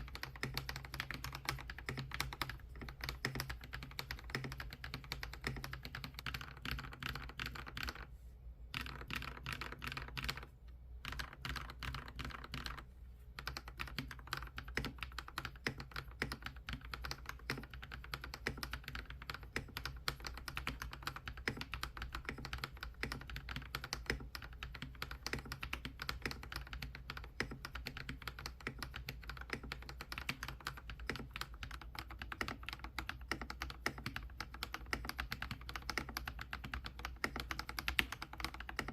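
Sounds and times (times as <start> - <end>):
fast typing on mechanical keyboard: 0.0 - 8.1, 8.7 - 38.9.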